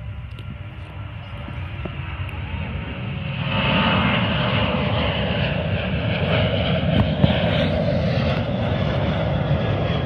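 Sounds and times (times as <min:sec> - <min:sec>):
jet engines rumbling overhead: 0:00.0 - 0:10.0.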